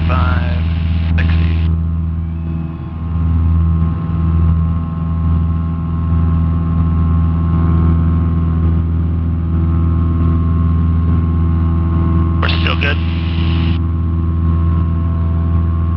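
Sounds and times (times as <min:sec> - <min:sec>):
propeller plane engine droning: 0:00.0 - 0:15.9.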